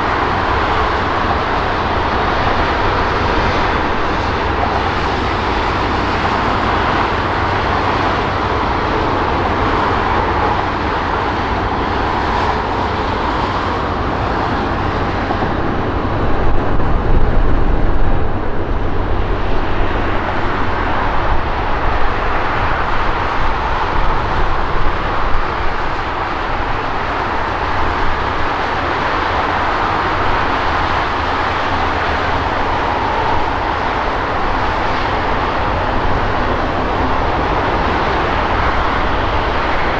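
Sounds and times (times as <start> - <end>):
jet engines rushing: 0.0 - 39.9
wind buffeting microphone: 0.0 - 39.9.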